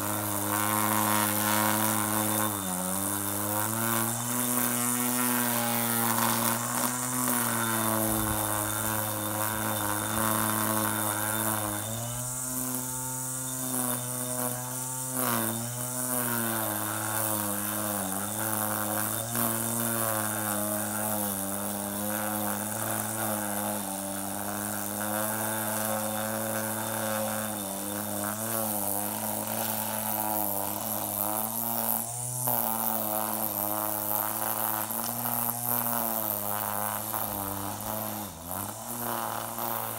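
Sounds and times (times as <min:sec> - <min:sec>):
electric string trimmer running: 0:00.0 - 0:39.9.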